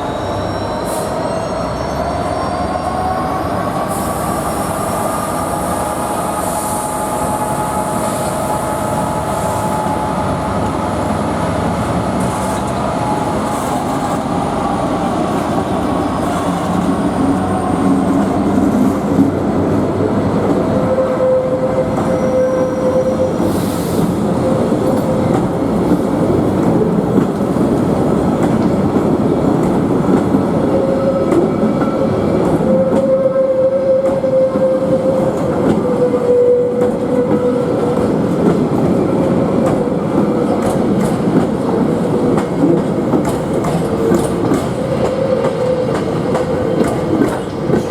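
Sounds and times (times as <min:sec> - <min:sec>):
train rumbling past: 0:00.0 - 0:47.9.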